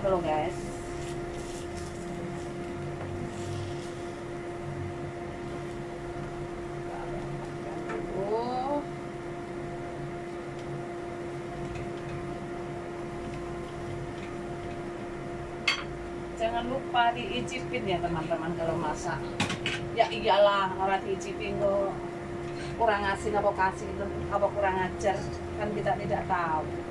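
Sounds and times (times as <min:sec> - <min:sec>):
kitchen fan humming: 0:00.0 - 0:26.9.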